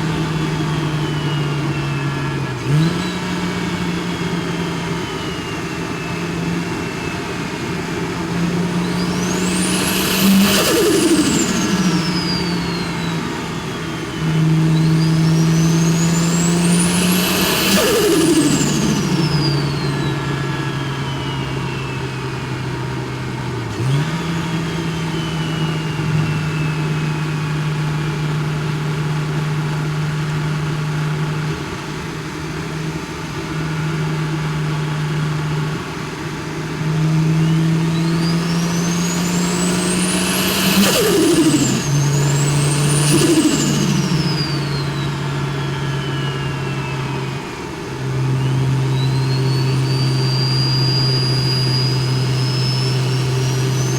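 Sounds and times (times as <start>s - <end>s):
turbo whistle: 0.0s - 31.7s, 32.8s - 53.9s
car engine revving: 0.0s - 53.9s.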